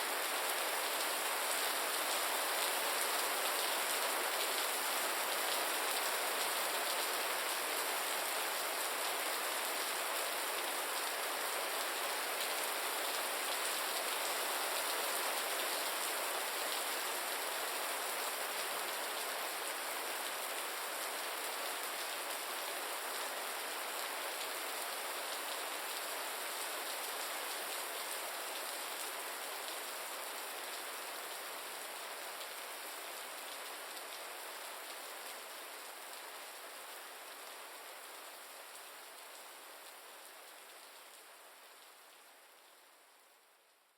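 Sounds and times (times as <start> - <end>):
gentle rain: 0.0 - 43.9.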